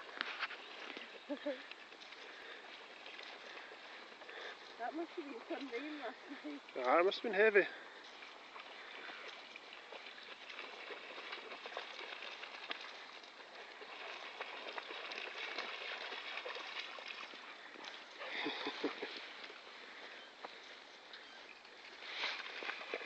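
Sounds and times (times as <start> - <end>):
dogs splashing through water: 0.0 - 23.0.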